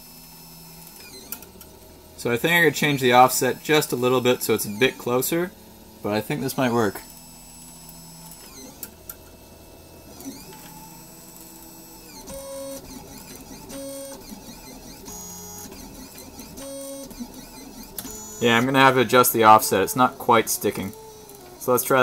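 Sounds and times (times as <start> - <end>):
printer stepper motors whining: 0.0 - 9.0, 9.7 - 22.0.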